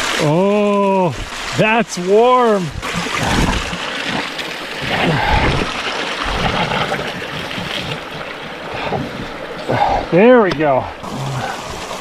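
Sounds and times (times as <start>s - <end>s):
water pouring into a pool: 0.0s - 9.9s, 11.0s - 12.0s.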